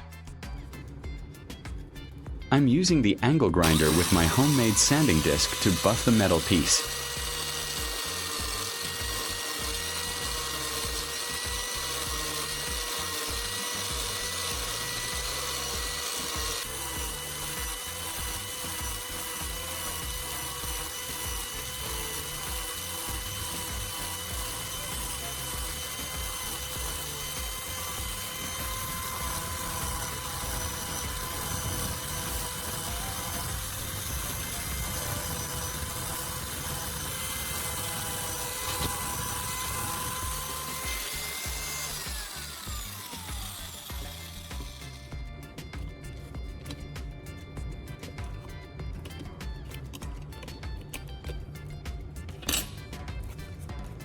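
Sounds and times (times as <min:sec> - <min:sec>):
angle grinder sanding metal: 0:00.0 - 0:54.0.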